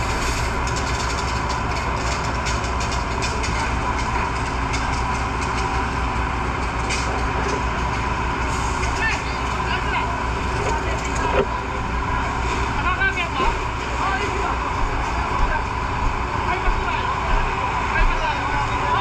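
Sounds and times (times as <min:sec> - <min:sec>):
fire truck engine rumbling: 0:00.0 - 0:19.0.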